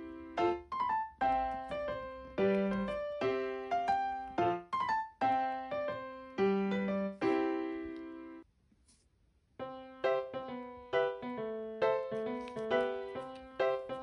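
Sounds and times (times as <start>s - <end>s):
light piano music: 0.0s - 8.5s, 9.6s - 14.0s.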